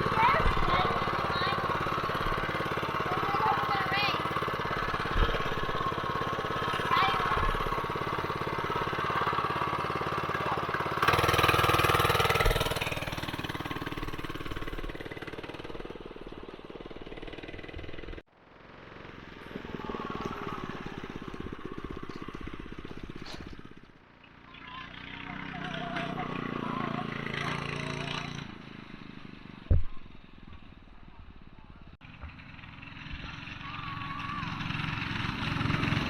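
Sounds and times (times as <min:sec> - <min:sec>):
mini bike engine running: 0:00.0 - 0:36.0.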